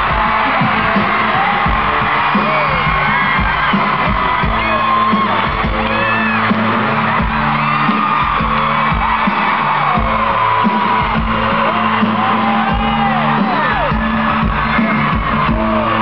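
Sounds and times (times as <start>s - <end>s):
audience whooping and cheering: 0.0s - 16.0s
live country band playing: 0.0s - 16.0s.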